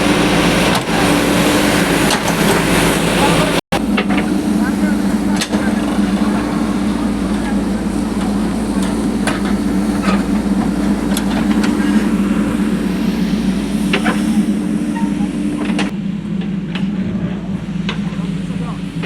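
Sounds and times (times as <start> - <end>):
engine droning steadily: 0.0 - 19.0.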